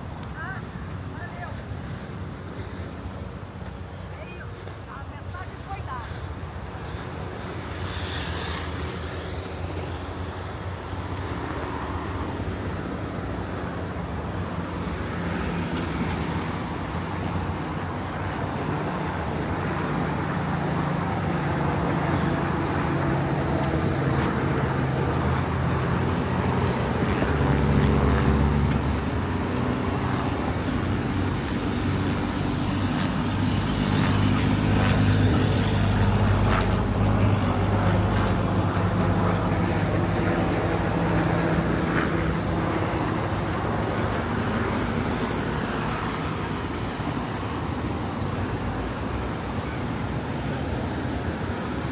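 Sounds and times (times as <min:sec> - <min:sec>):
vehicles passing close by: 0:00.0 - 0:51.9.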